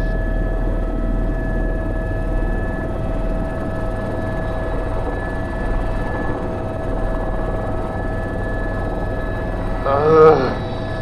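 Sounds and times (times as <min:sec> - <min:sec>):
helicopter rotor beat: 0:00.0 - 0:11.0
helicopter turbine whine: 0:00.0 - 0:11.0.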